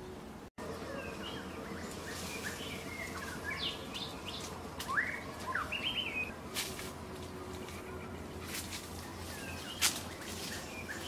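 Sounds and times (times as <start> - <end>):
small birds chirping: 0.6 - 11.0
leaf litter rustling: 1.8 - 11.0.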